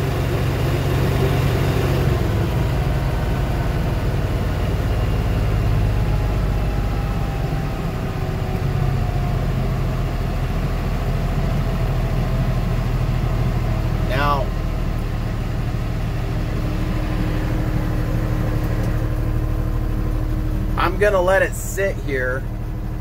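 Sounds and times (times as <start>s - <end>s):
tractor diesel engine slowing down: 0.0s - 23.0s.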